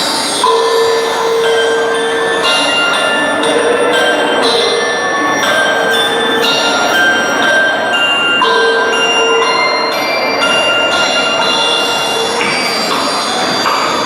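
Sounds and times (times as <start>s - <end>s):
bells chiming: 0.0s - 14.0s.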